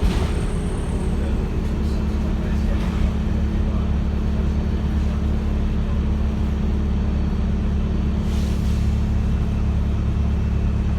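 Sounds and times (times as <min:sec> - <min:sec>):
bus engine droning: 0:00.0 - 0:10.9.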